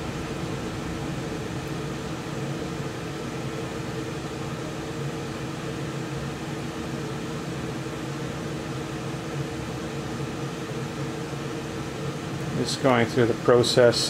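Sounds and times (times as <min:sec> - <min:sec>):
furnace blower fan running: 0:00.0 - 0:14.0.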